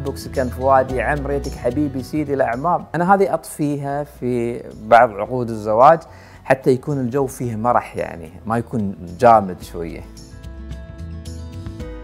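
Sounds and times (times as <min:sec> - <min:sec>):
background music with plucked notes: 0:00.0 - 0:12.0.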